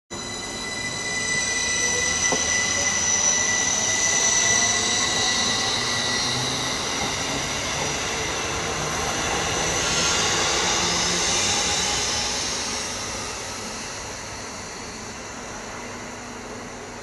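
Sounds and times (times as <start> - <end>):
electric train whining past: 0.1 - 17.0
train wheels rumbling on rails: 0.2 - 17.0.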